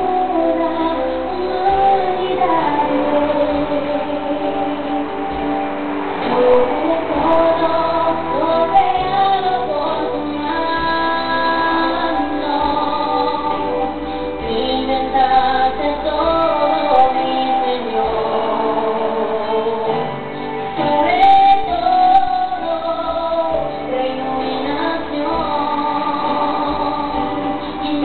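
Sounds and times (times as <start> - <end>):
musical accompaniment: 0.0 - 28.0
woman singing long gliding notes: 0.0 - 28.0.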